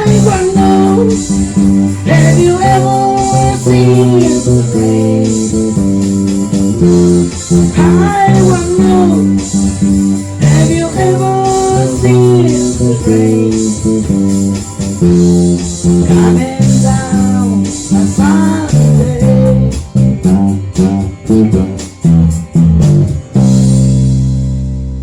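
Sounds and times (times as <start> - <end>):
rock band guitars and bass: 0.0 - 25.0.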